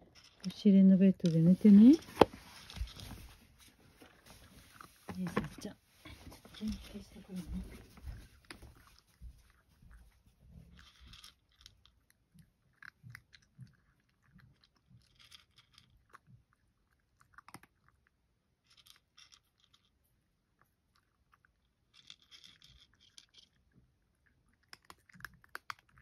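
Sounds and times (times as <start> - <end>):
cat crunching dry kibble: 0.0 - 26.0.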